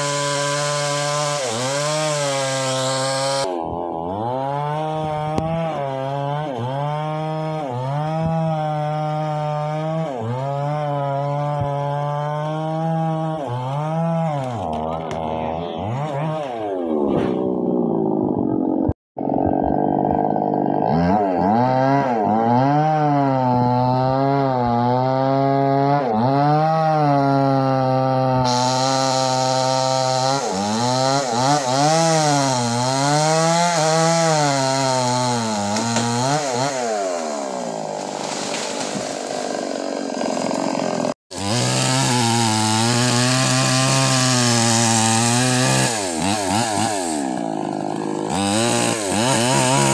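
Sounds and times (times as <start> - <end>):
chainsaw revving cutting wood: 0.0 - 49.9.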